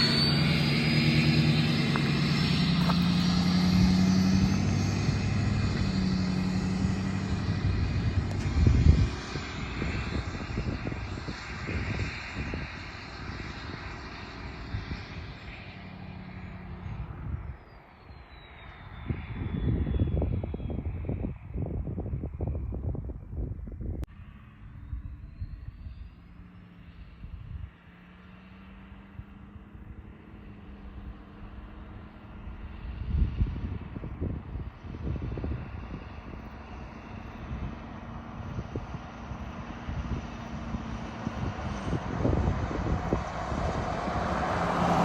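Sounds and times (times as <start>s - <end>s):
diesel truck driving by: 0.0s - 17.6s, 24.1s - 45.0s.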